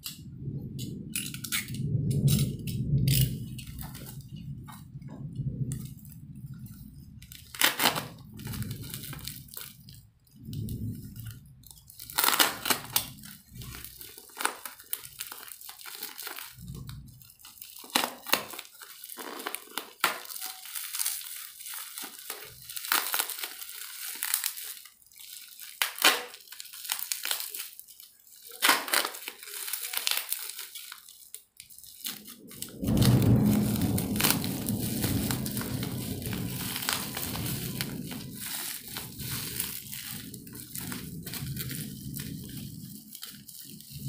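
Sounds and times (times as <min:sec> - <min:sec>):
packaging crinkling and tearing: 0:00.0 - 0:44.0.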